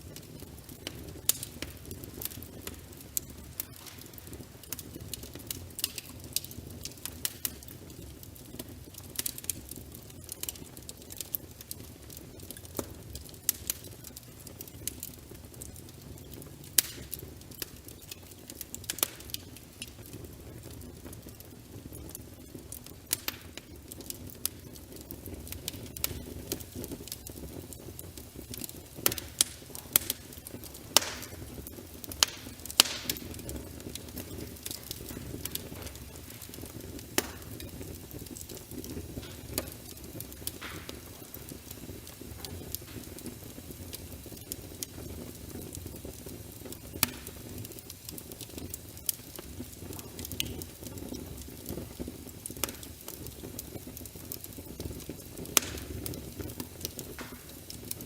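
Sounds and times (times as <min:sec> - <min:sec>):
low rumble of flames: 0:00.0 - 0:58.0
sharp pops of fire: 0:00.0 - 0:58.0
wood fire crackling: 0:00.0 - 0:58.0.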